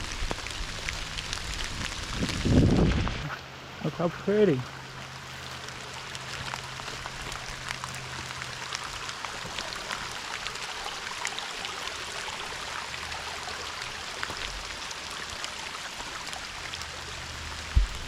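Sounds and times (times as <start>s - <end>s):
rain falling through woods: 0.0s - 18.0s
stream rushing: 0.0s - 18.0s.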